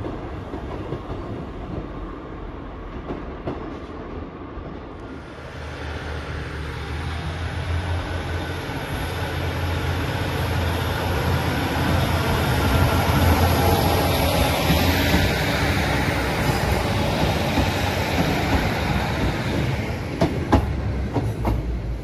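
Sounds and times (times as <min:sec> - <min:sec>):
train wheel and rail noise: 0:00.0 - 0:22.0
diesel train engine drone: 0:04.3 - 0:22.0.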